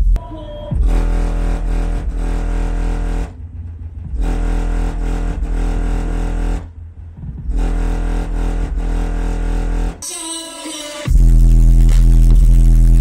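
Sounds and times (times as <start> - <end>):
deep subwoofer bass notes: 0.0 - 10.0, 11.1 - 13.0.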